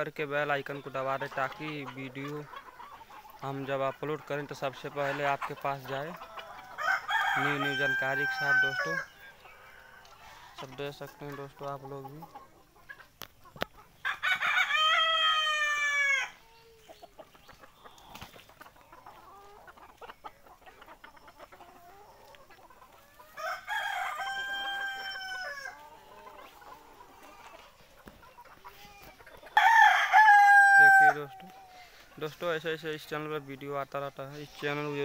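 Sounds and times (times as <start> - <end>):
roosters crowing: 0.0 - 11.6, 13.9 - 16.6, 17.2 - 32.9
hens clucking: 0.0 - 35.0.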